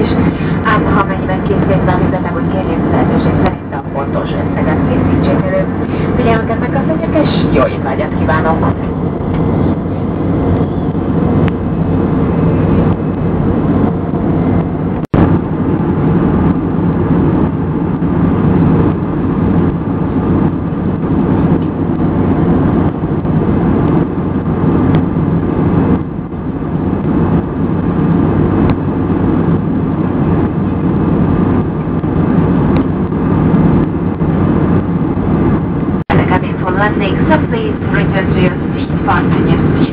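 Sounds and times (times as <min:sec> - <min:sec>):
aircraft cabin engine drone: 0:00.0 - 0:39.9
low hum: 0:00.0 - 0:39.9.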